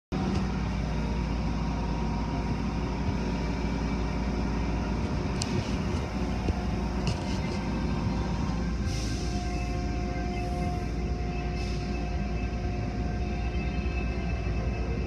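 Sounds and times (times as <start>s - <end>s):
car wash machinery: 0.2s - 15.0s.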